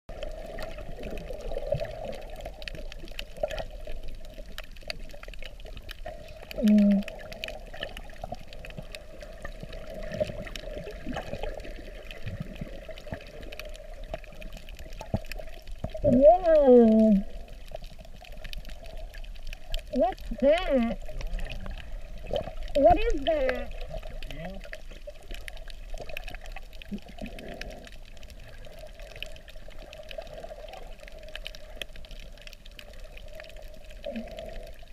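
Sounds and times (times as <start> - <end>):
underwater moving water: 0.1 - 34.9
faint scattered clicks: 0.2 - 34.9.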